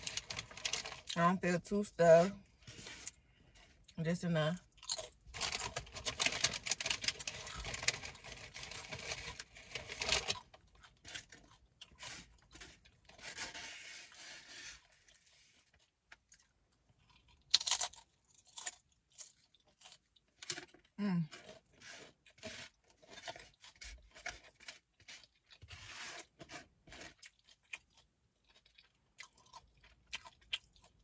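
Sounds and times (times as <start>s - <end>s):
crunchy food being chewed: 4.7s - 13.4s, 14.8s - 31.0s.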